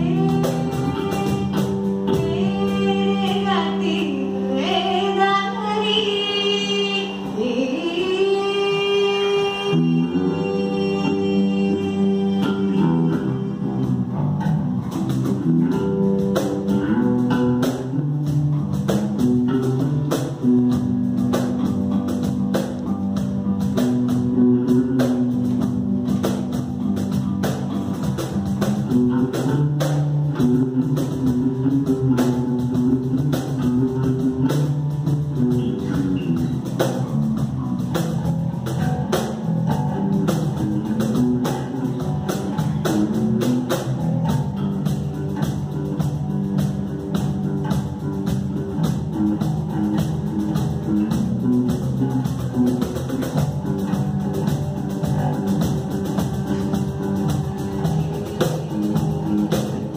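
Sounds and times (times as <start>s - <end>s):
cajon strokes: 0.0s - 3.8s, 10.3s - 59.9s
electric bass guitar melody: 0.0s - 59.9s.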